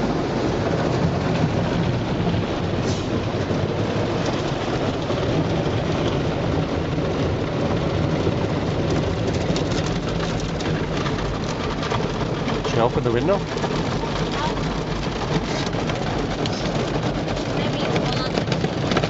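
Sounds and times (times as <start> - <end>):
car wash machinery noise: 0.0 - 19.0.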